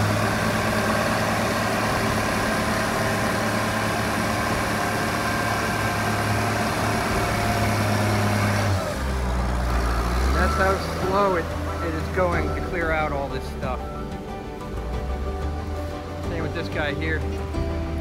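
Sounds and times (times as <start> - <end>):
heavy machine engine humming: 0.0 - 18.0.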